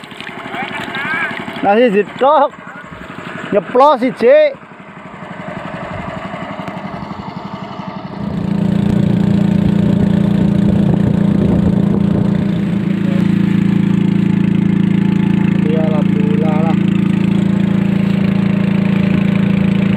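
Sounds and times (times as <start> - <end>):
boat engine pulsing: 0.0 - 19.9.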